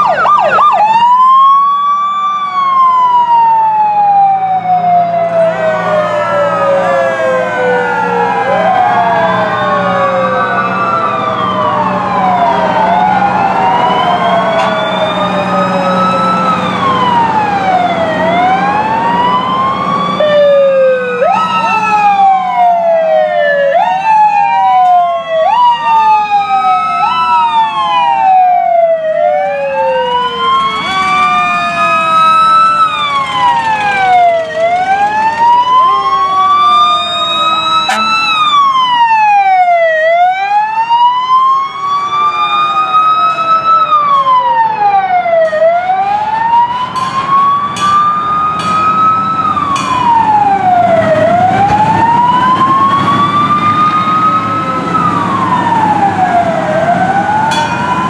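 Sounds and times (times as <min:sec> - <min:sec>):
fire truck sirens wailing: 0:00.0 - 0:58.0.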